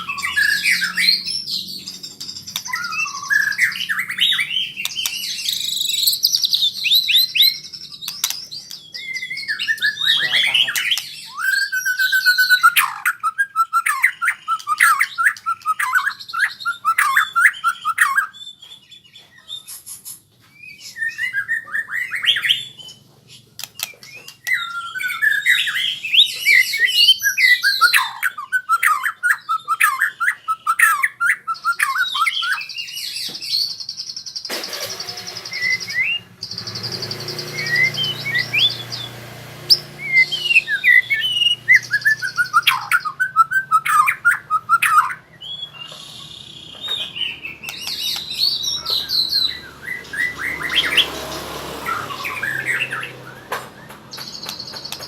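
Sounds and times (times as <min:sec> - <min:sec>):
bird singing whistled trills: 0:00.0 - 0:20.0, 0:20.6 - 0:23.0, 0:23.6 - 0:51.1.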